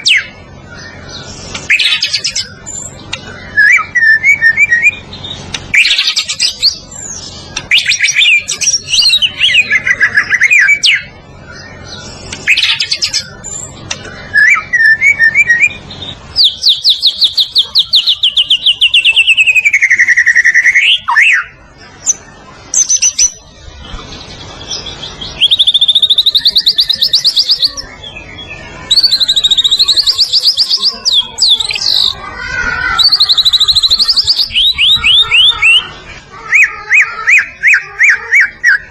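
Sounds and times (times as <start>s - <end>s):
bird singing whistles and trills: 0.0s - 23.4s, 24.2s - 32.2s, 32.8s - 38.9s.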